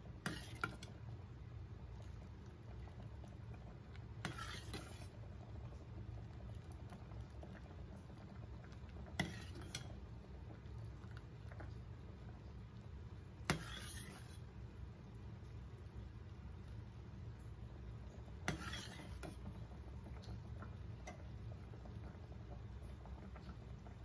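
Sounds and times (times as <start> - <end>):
sauce bubbling: 0.0 - 24.0.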